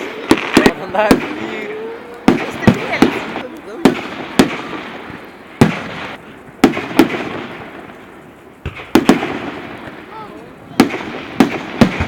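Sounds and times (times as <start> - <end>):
fireworks bursting with rumble: 0.0 - 12.0.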